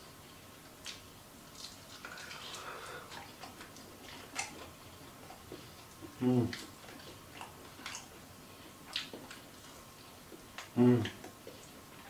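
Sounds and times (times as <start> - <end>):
person chewing crispy food: 0.8 - 12.0.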